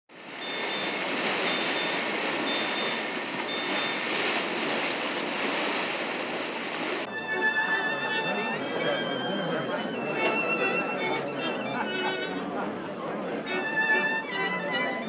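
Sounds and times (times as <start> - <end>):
sea water rushing: 0.1 - 15.0.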